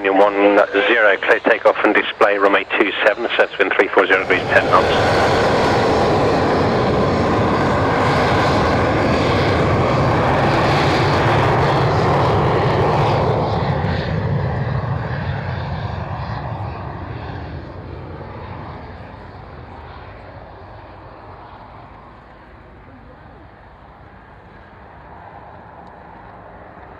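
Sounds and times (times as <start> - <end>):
jet aircraft engines at takeoff: 0.0 - 26.9.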